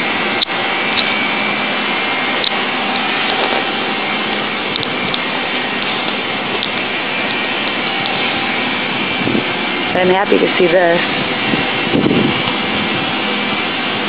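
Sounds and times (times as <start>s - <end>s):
loud rushing hiss: 0.0s - 14.0s.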